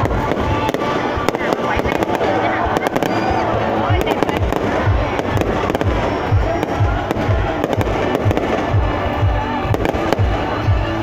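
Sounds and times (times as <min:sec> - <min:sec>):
fireworks bangs and crackles: 0:00.0 - 0:11.0
music with low beat: 0:00.0 - 0:11.0.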